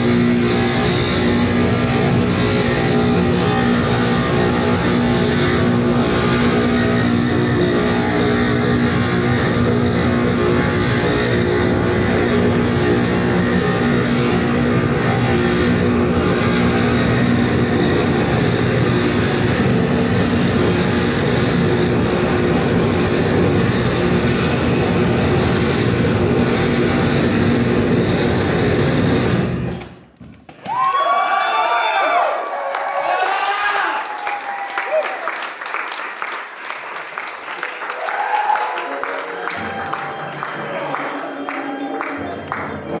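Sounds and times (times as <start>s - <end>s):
distorted noise music with droning: 0.0s - 30.2s, 37.2s - 43.0s.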